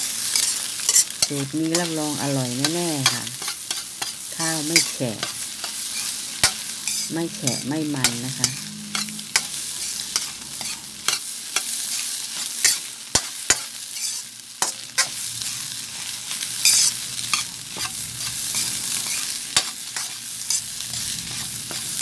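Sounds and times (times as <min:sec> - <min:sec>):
frying sizzle: 0:00.0 - 0:22.0.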